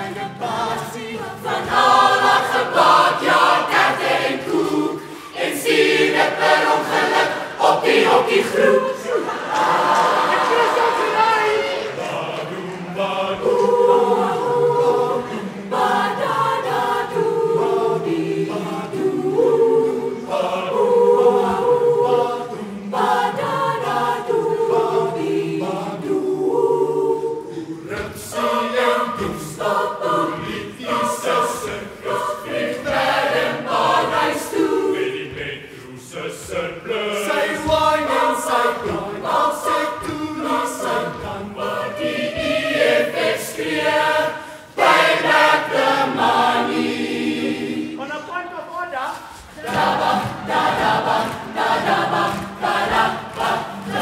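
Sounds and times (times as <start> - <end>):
choir singing in harmony: 0.0 - 48.2, 49.1 - 54.0.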